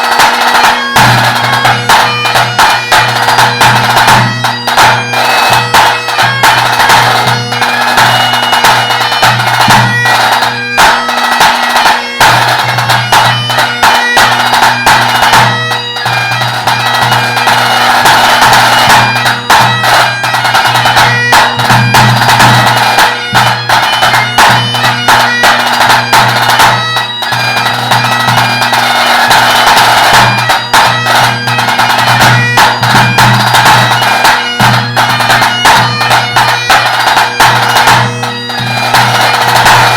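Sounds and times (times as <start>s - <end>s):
bagpipe playing a tune: 0.0s - 39.9s.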